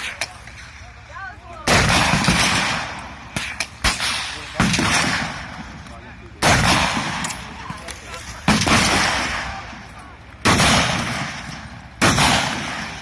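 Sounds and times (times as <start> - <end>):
rifle shots with long echo: 1.6 - 13.0.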